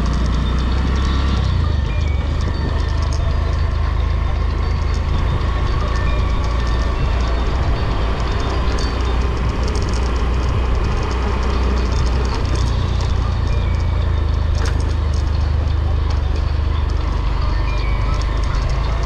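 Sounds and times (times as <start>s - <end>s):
light rattling clicks: 0.0s - 19.0s
vehicle road noise rumble: 0.0s - 19.0s.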